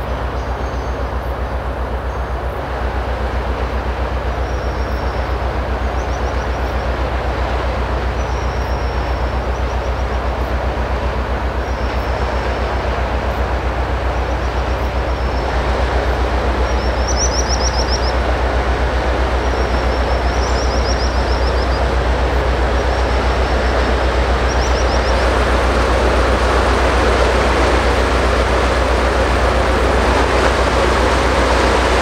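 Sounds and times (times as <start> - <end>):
ship diesel engine throbbing: 0.0 - 32.0.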